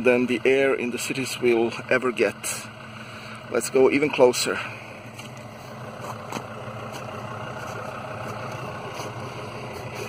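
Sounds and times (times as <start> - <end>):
off-road vehicle engines idling: 0.0 - 10.0.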